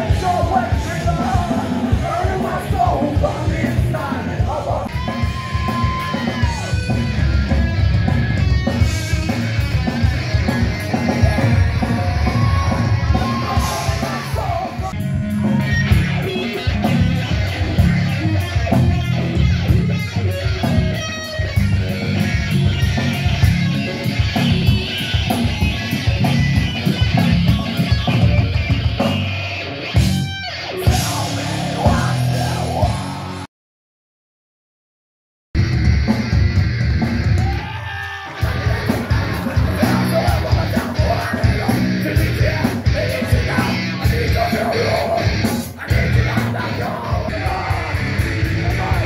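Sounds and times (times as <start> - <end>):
heavy rock band playing: 0.0 - 33.5, 35.6 - 49.0.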